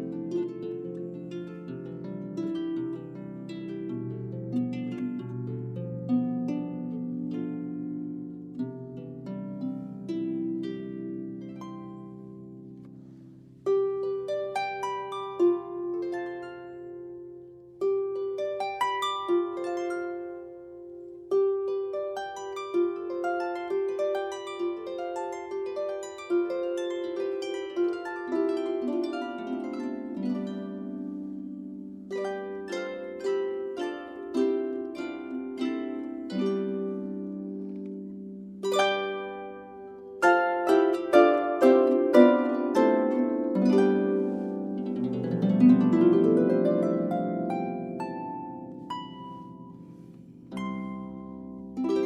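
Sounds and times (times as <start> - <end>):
solo harp playing: 0.0 - 52.0.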